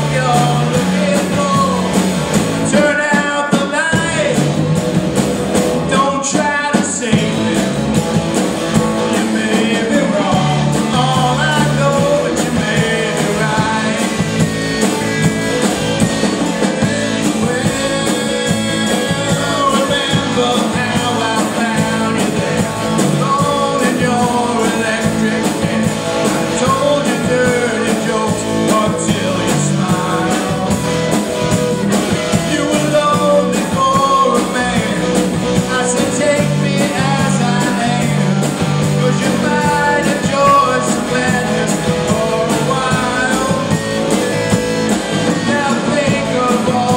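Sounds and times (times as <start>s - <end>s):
rock band playing: 0.0s - 46.9s.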